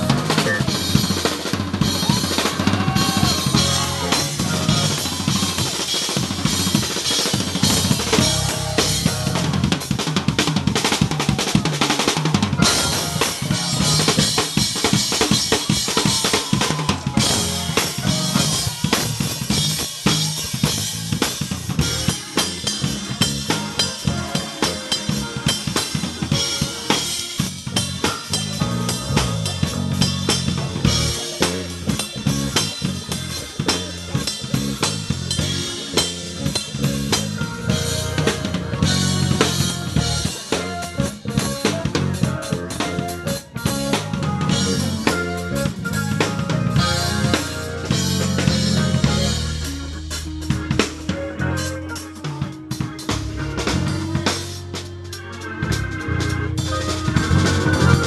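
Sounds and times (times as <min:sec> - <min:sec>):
band music: 0:00.0 - 0:58.0.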